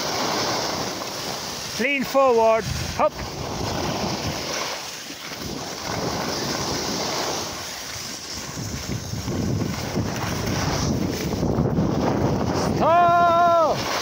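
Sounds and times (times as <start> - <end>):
skis sliding on packed snow: 0.0 - 14.0
wind buffeting microphone: 0.0 - 14.0.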